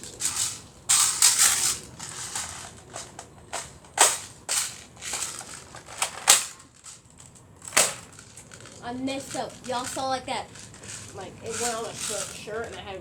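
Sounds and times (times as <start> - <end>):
rustling and handling noise: 0.0 - 13.0.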